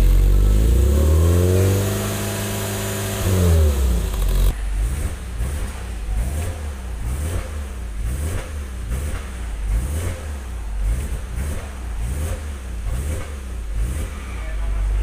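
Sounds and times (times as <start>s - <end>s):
car engine revving in blips: 0.0s - 14.6s.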